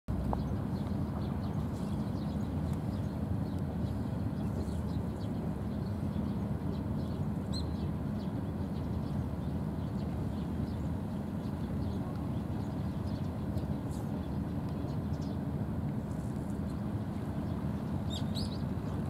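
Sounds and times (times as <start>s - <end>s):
steady low outdoor rumble: 0.1s - 19.0s.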